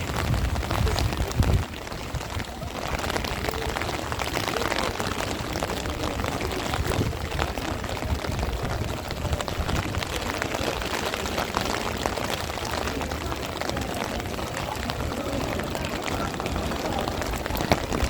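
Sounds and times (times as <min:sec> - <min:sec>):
heavy rain falling: 0:00.0 - 0:18.0
strong wind rumbling: 0:00.0 - 0:18.0.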